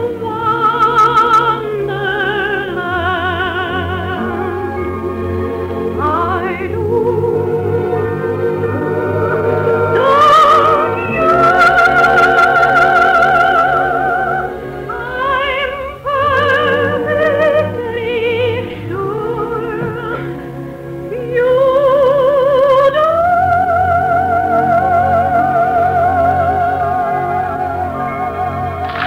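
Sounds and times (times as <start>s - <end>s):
operatic singing with vibrato: 0.0s - 29.0s
orchestral accompaniment: 0.0s - 29.0s.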